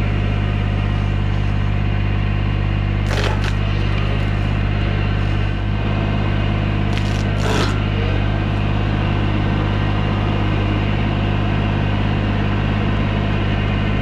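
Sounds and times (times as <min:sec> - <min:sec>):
diesel engine at high revs: 0:00.0 - 0:14.0.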